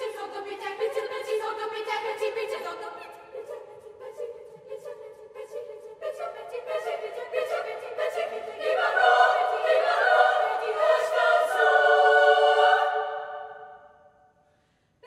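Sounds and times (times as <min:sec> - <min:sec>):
girls' choir singing: 0:00.0 - 0:14.0.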